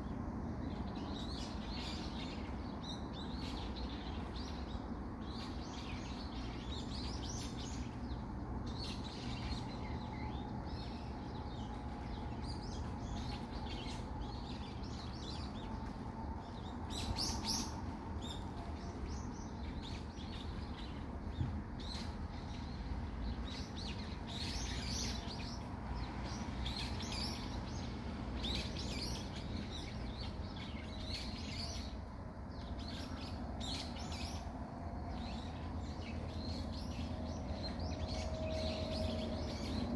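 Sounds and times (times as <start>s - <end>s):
city background rumble: 0.0s - 39.9s
small birds chirping: 0.0s - 39.9s.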